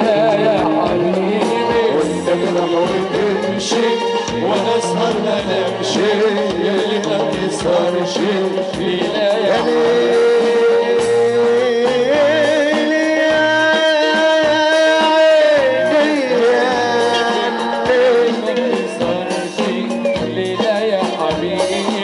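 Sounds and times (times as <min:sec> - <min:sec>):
instrumental backing with percussion: 0:00.0 - 0:22.0
man singing melody: 0:00.0 - 0:22.0.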